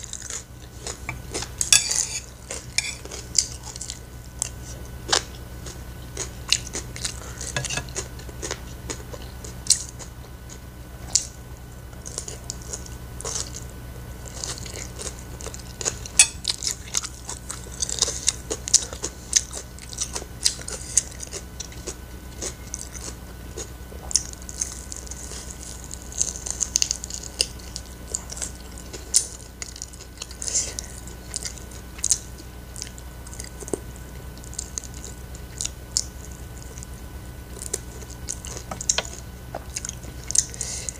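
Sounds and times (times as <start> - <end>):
chewing food: 0.0 - 40.9
steady low hum: 0.0 - 40.9.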